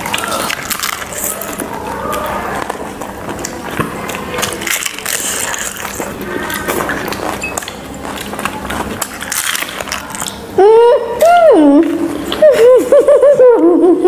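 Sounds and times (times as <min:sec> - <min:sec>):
people chewing food: 0:00.0 - 0:14.0.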